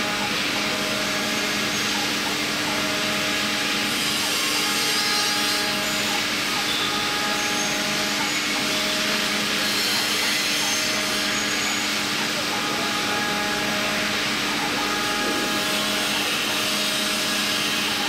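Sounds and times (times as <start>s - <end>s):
milling machine spindle hum and hiss: 0.0s - 18.0s.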